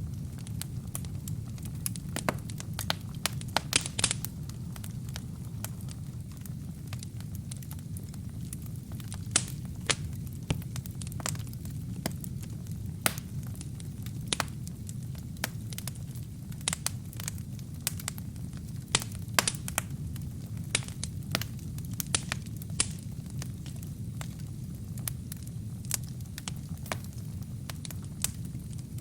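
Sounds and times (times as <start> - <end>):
fireplace wood crackling: 0.0 - 29.0.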